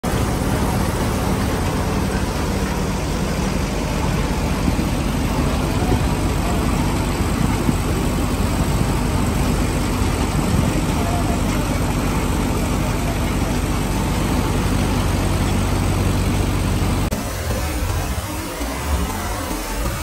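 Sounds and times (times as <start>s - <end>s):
threshing drum whirring: 0.0s - 20.0s
tractor engine drone: 0.0s - 20.0s.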